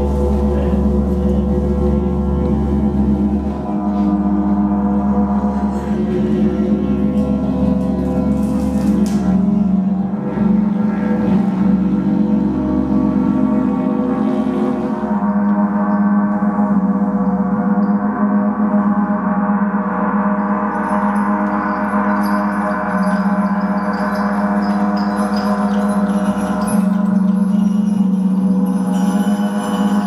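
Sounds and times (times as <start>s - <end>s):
gong played with soft mallet: 0.0s - 30.0s.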